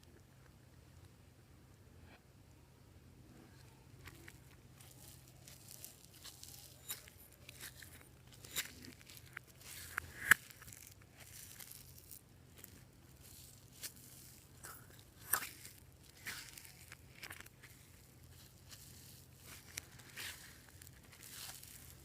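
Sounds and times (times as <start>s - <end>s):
slime crackling and popping: 4.1s - 22.0s.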